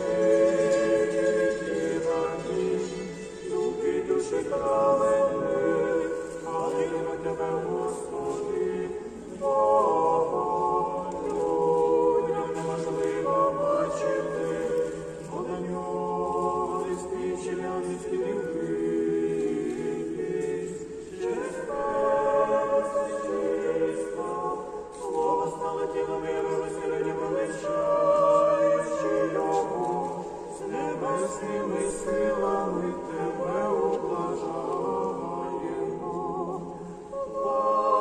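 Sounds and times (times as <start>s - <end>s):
choir singing chant: 0.0s - 38.0s.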